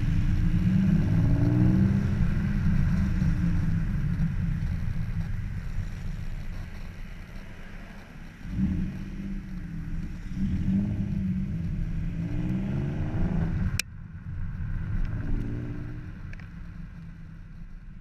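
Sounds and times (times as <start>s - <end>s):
car engine revving: 0.0s - 17.4s.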